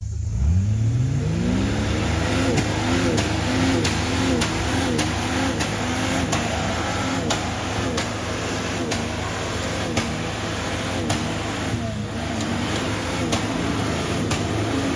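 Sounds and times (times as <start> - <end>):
off-road vehicle engine revving: 0.0 - 14.9.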